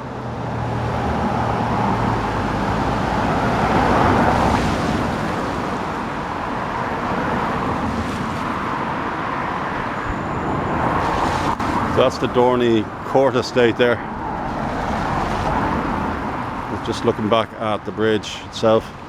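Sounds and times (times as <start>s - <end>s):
road traffic rushing: 0.0s - 19.0s
vehicle passing: 0.1s - 19.0s.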